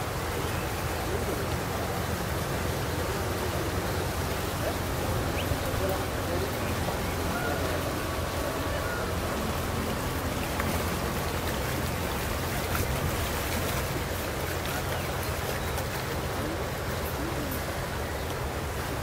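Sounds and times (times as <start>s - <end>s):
outboard motor drone: 0.0s - 19.0s.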